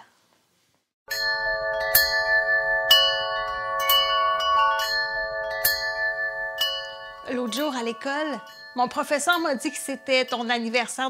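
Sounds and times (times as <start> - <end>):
bell-like chime music: 1.1 - 11.0.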